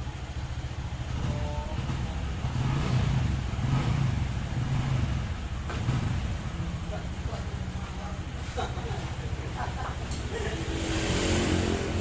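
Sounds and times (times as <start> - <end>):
scooter engine revving: 0.0 - 8.4, 9.1 - 12.0.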